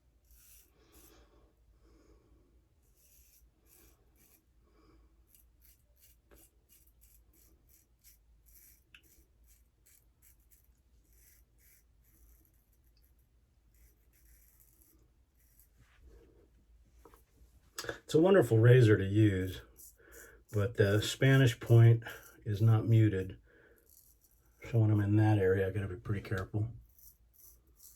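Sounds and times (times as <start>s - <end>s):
razor scraping whiskers: 0.0s - 1.3s, 2.8s - 16.0s, 18.5s - 27.9s.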